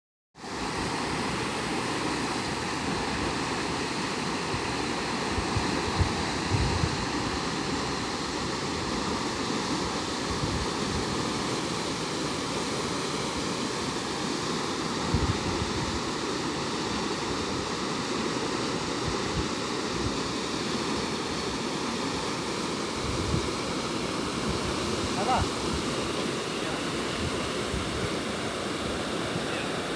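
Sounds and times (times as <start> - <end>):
floodwater rushing: 0.4 - 29.9.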